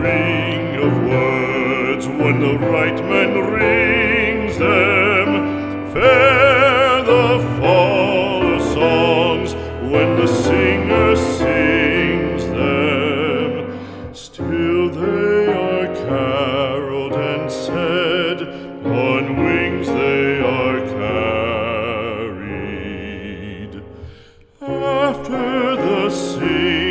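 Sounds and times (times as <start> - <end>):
operatic singing with accompaniment: 0.0 - 26.9.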